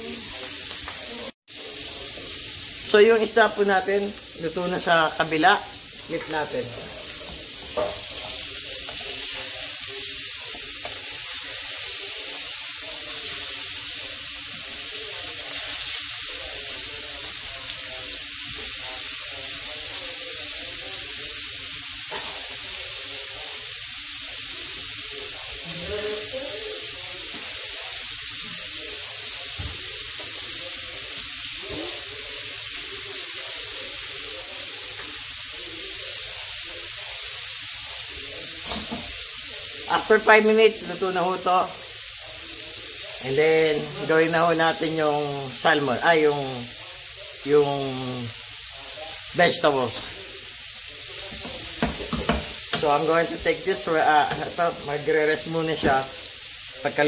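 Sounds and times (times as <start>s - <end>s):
fish sizzling in a pan: 0.0s - 57.0s.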